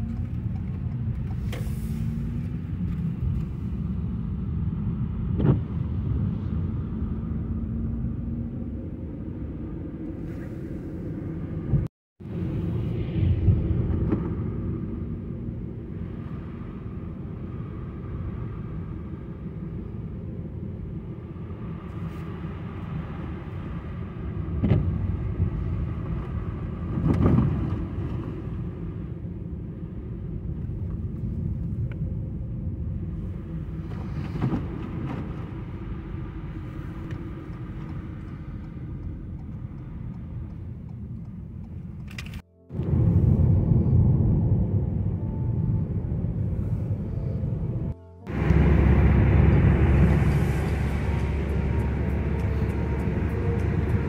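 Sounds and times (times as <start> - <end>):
tyres and engine rumbling: 0.0 - 54.0.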